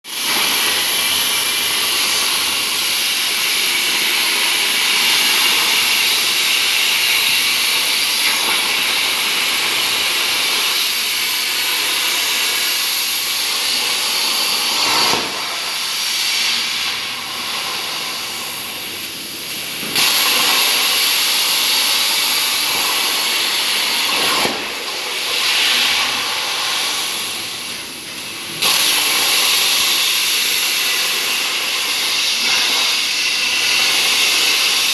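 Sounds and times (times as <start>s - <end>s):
plasma torch hissing: 0.1s - 34.9s.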